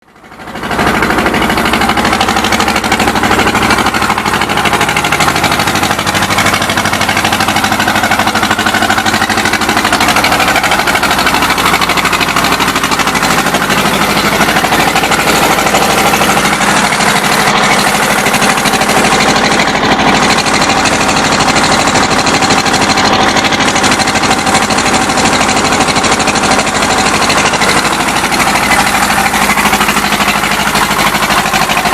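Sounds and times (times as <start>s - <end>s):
marine engine running loudly: 0.0s - 31.9s.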